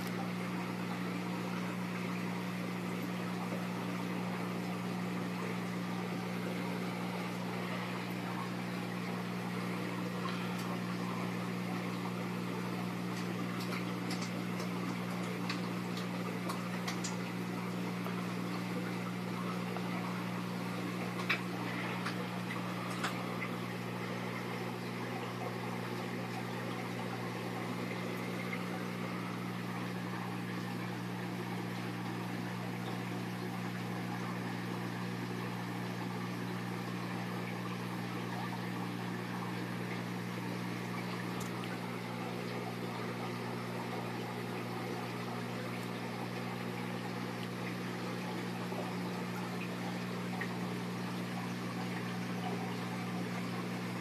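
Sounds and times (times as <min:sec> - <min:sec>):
aquarium air stone bubbling: 0:00.0 - 0:54.0
pump hum: 0:00.0 - 0:54.0.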